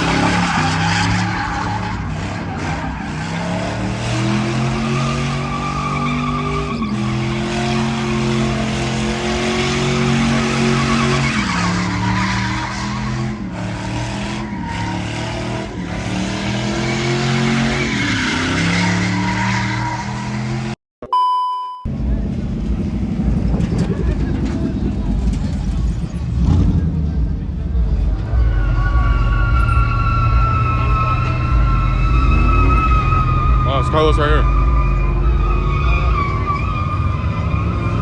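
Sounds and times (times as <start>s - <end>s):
tyres squealing on pavement: 0.0s - 20.6s, 28.0s - 38.0s
truck engine revving high: 0.0s - 20.8s, 21.9s - 38.0s.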